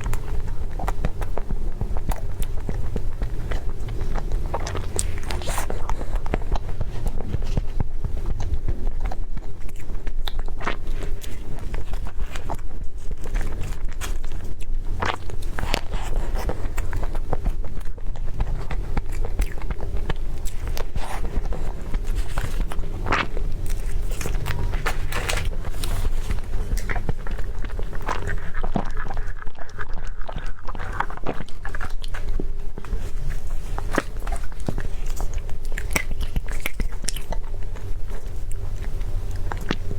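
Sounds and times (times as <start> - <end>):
person biting and chewing food: 0.0 - 39.9
small clicks and crackles: 0.0 - 39.9.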